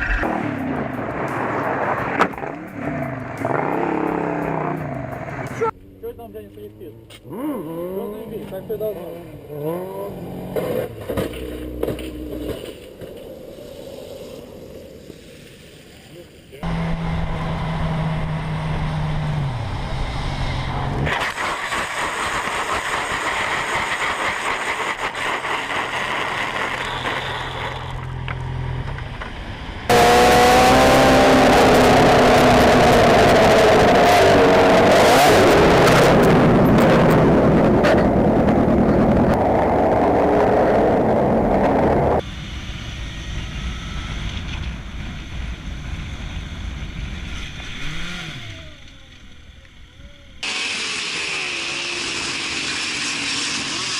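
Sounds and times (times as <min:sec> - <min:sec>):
vehicle engines running: 0:00.0 - 0:21.1, 0:22.4 - 0:50.5.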